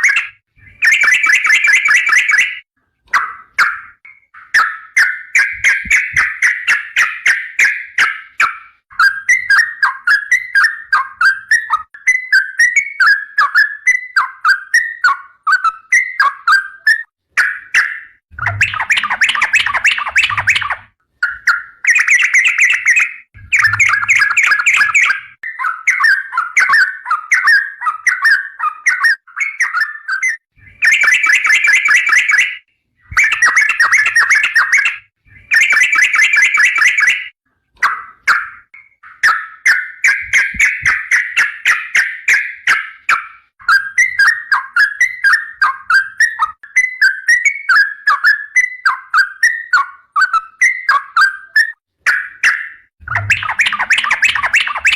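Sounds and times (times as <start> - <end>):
bulbul singing: 0.0 - 15.2, 15.9 - 47.8, 50.6 - 54.9.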